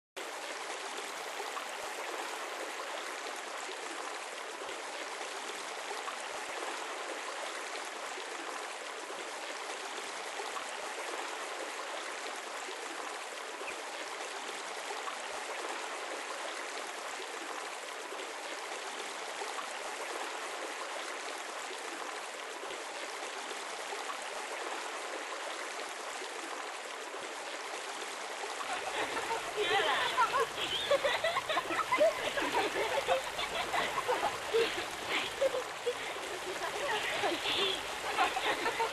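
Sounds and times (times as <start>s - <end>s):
waterfall running into pond: 0.2s - 38.9s.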